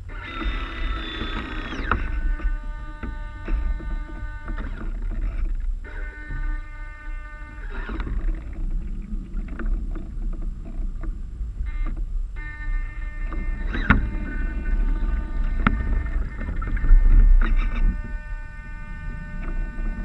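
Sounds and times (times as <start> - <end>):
thin hum with overtones: 0.0 - 20.0
water splashing against hulls: 0.0 - 20.0
wind rumble on microphone: 0.0 - 20.0.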